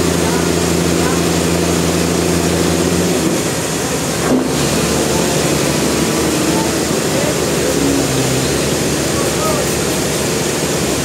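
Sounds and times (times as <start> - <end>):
sawmill machinery running: 0.0 - 11.0.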